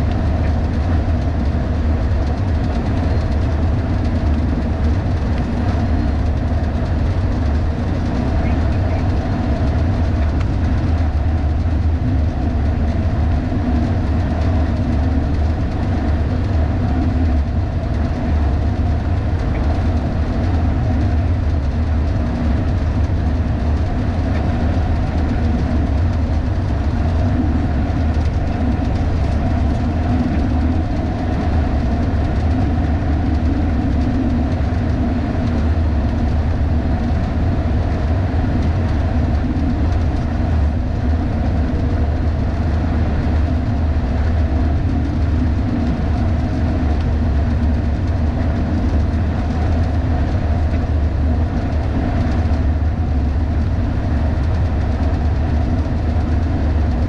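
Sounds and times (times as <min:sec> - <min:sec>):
truck driving drone: 0:00.0 - 0:57.0.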